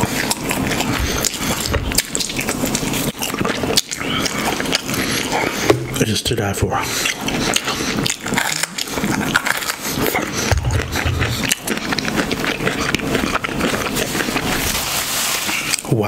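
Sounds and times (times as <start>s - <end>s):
crunching and chewing pepper: 0.0s - 5.8s, 6.9s - 16.0s.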